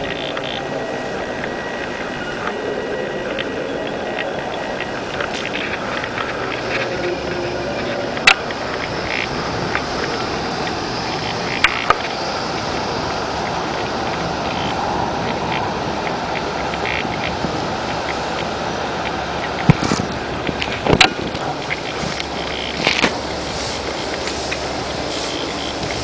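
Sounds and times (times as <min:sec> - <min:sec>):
wind noise: 0:00.0 - 0:26.0.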